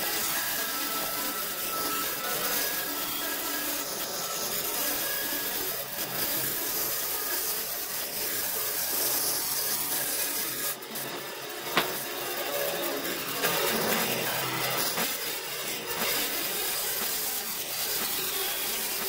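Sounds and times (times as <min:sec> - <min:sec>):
bandsaw cutting through log: 0:00.0 - 0:19.0.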